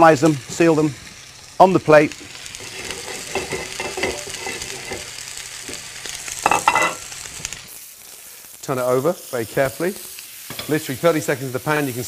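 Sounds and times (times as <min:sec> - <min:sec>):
steaks sizzling in a frying pan: 0:00.0 - 0:12.0.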